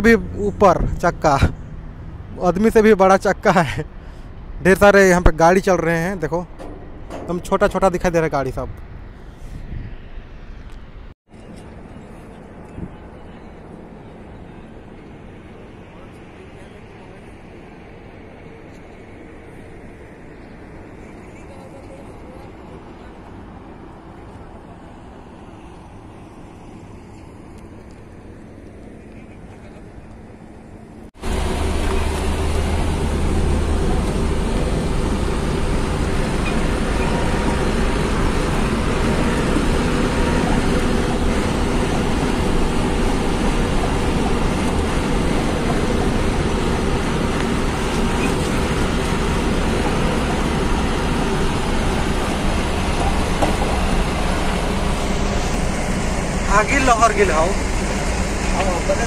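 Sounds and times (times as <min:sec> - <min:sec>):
faint outdoor ambience: 0:00.0 - 0:59.0
vehicle engine and road noise: 0:00.0 - 0:59.0
low drone: 0:06.4 - 0:59.0.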